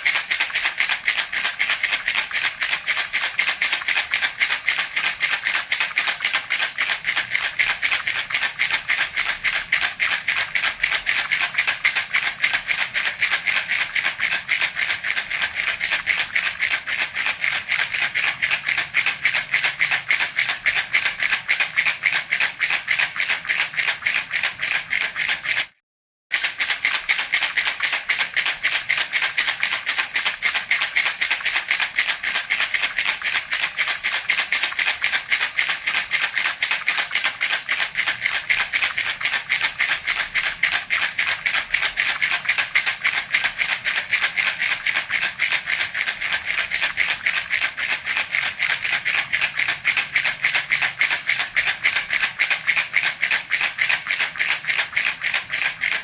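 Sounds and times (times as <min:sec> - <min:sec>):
baby rattle shaken: 0:00.0 - 0:25.8, 0:26.4 - 0:56.0.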